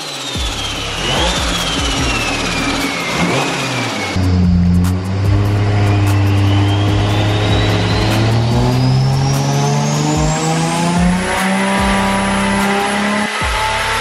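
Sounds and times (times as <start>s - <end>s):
thin rising whine: 0.0s - 14.0s
car engine revving under load: 0.4s - 14.0s.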